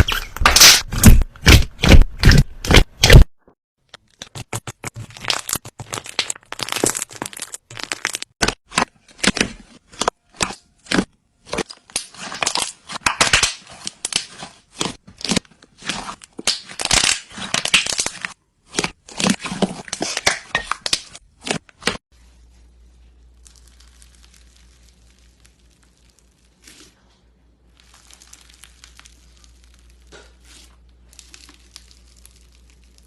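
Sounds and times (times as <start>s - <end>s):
slime popping and crackling: 4.2s - 22.0s, 23.3s - 26.9s, 27.7s - 33.0s.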